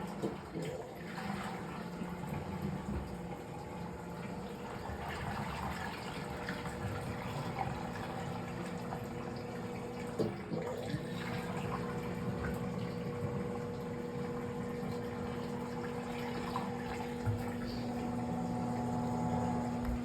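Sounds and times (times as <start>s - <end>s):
water pouring into washing machine: 0.0s - 20.0s.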